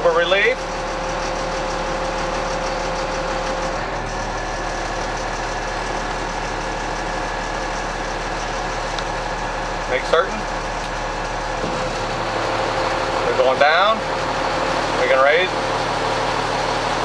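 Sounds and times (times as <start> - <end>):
hydraulic pump steady tone: 0.0 - 17.0
truck engine idling: 0.0 - 17.0.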